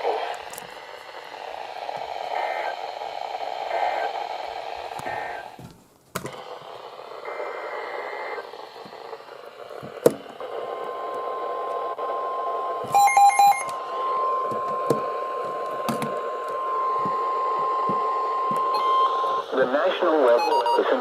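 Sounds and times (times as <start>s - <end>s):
steady alarm tone: 0.0s - 5.6s, 6.3s - 21.0s
warbling data tones: 0.0s - 5.6s, 6.4s - 21.0s
radio static hiss: 0.0s - 13.0s, 13.6s - 21.0s
static crackles: 0.0s - 21.0s.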